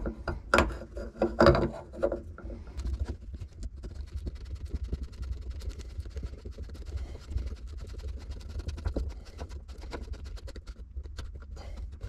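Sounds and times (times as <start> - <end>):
plastic rubbing and scraping: 0.0 - 12.0.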